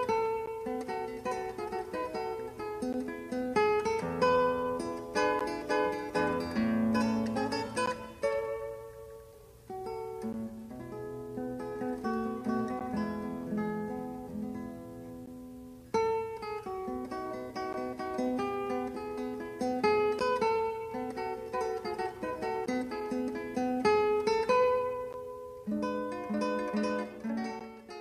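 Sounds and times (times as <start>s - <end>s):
acoustic guitar picking: 0.0s - 28.0s.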